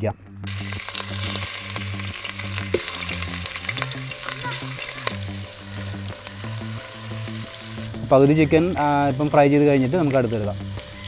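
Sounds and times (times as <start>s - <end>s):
oil crackling: 0.4s - 11.0s
chicken sizzling in hot oil: 0.5s - 11.0s.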